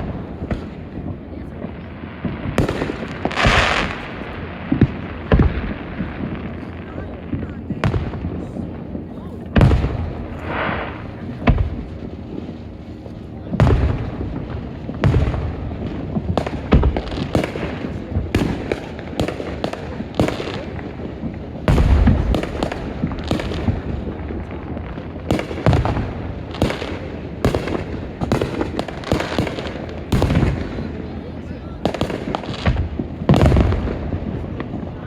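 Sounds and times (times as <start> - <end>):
deep firework booms: 0.0 - 35.0
fireworks cracks and bangs: 0.0 - 35.0.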